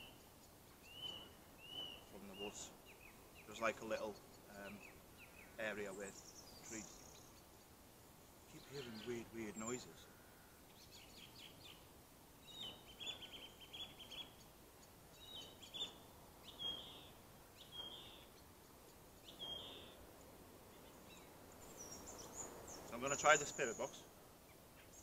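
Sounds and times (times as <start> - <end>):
bird trill: 0.0 - 7.8, 8.5 - 25.0.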